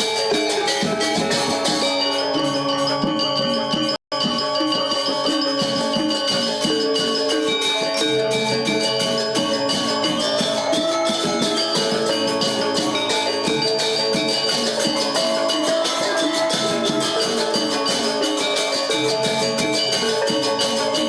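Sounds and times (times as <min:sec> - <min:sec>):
gamelan ensemble playing: 0:00.0 - 0:21.0.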